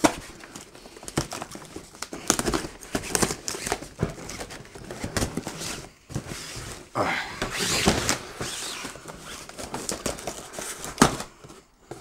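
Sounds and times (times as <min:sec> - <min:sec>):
cardboard flaps crinkling and scraping: 0:00.0 - 0:12.0.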